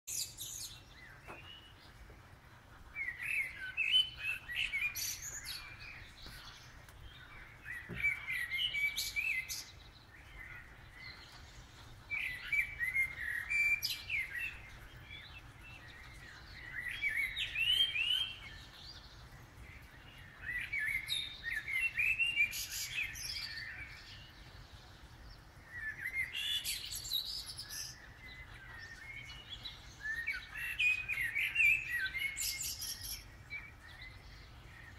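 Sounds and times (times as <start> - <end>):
blackbird singing: 0.1 - 34.9.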